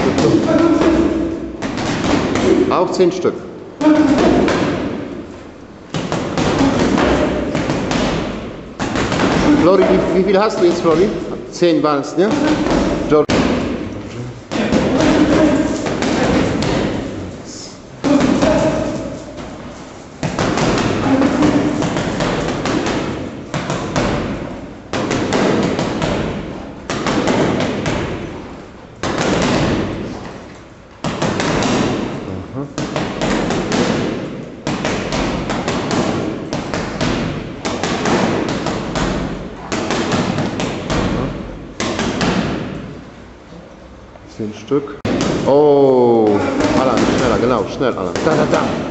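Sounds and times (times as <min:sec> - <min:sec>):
boxing gloves hitting punching bag: 0:00.0 - 0:03.0, 0:03.8 - 0:13.9, 0:14.5 - 0:17.2, 0:18.0 - 0:43.0, 0:45.0 - 0:48.9.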